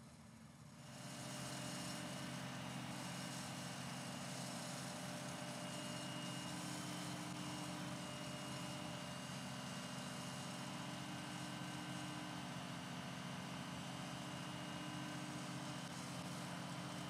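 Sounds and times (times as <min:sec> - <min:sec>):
vacuum excavator high whine: 0:00.2 - 0:17.0.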